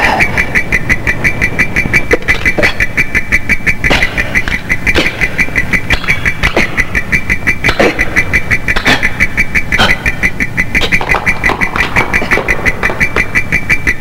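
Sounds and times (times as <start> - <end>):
high pulsing electronic tone: 0.0 - 14.0
low electronic throb: 0.0 - 14.0.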